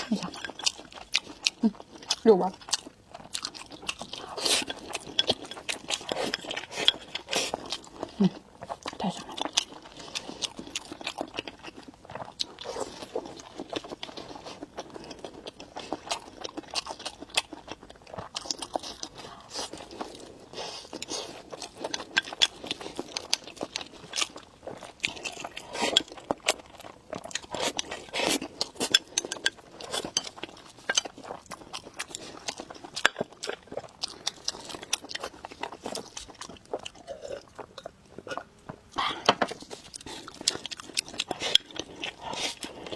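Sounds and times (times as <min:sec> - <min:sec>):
crunchy chewing with mouth clicks: 0:00.0 - 0:42.9.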